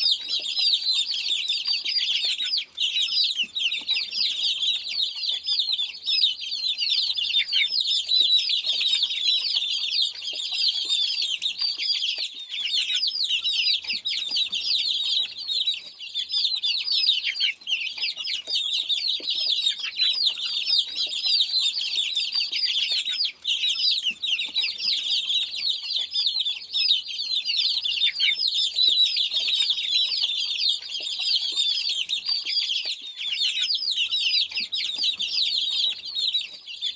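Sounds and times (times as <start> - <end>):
chicks peeping: 0.0 - 36.9.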